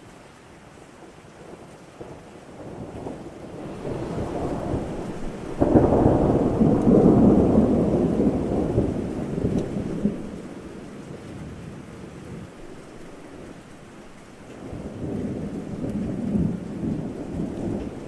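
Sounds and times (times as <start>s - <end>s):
steady rain: 0.0s - 18.0s
thunder rumbling: 2.0s - 18.0s.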